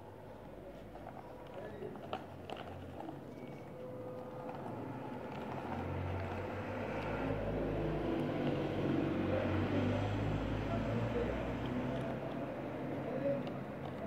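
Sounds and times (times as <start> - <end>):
motor vehicle rumble: 0.1 - 14.0.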